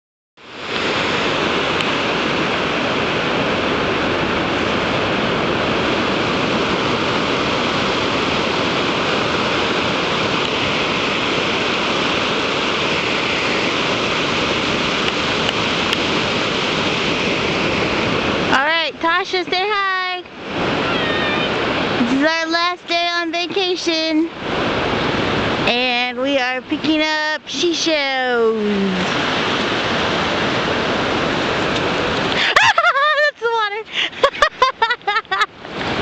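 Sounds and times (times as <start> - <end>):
ocean surf breaking: 0.4 - 36.0.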